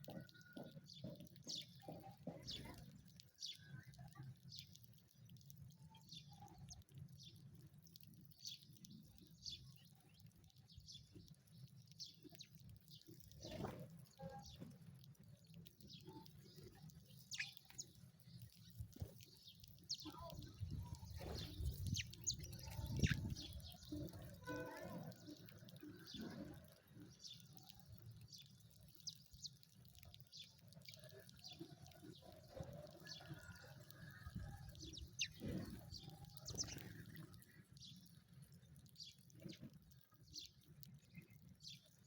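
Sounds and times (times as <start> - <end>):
sparrows chirping: 0.0 - 42.0.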